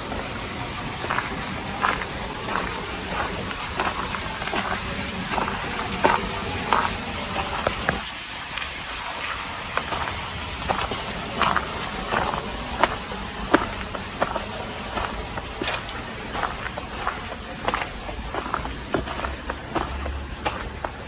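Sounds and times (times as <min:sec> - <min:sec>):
footsteps walking: 0:00.0 - 0:21.0
steady rushing noise: 0:00.0 - 0:21.0.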